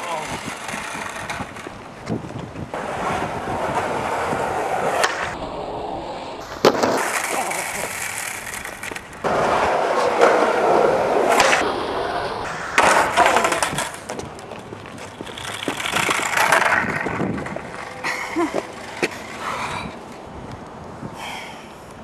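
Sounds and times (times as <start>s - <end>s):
skateboard clattering on ground: 0.0s - 5.4s, 6.4s - 11.7s, 12.5s - 20.2s
skateboard wheels rolling on pavement: 0.0s - 22.0s.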